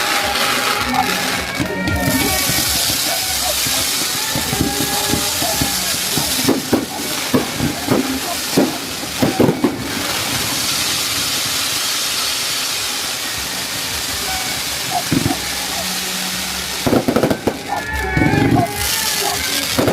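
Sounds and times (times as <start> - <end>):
firework fountain hissing: 0.0 - 19.9.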